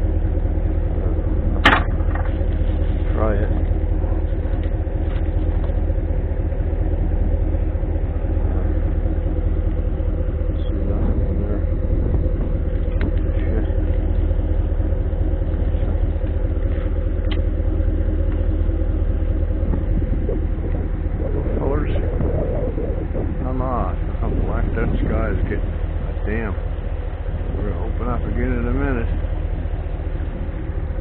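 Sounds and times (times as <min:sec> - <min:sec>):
truck engine idling: 0:00.0 - 0:31.0
wind rumbling on microphone: 0:00.0 - 0:31.0.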